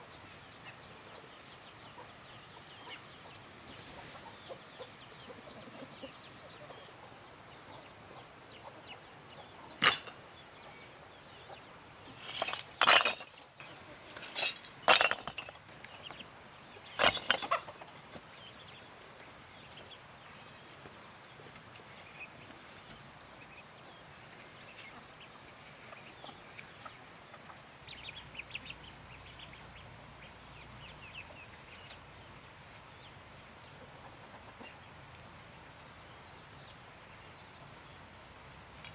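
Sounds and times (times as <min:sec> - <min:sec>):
chickens clucking: 0:00.0 - 0:32.0, 0:32.8 - 0:35.3
high insect hum: 0:00.0 - 0:38.9.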